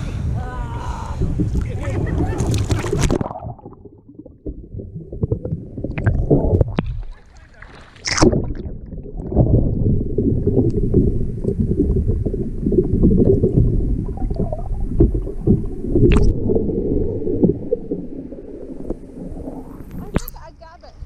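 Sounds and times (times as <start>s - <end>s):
water sloshing and gurgling: 0.8s - 20.6s.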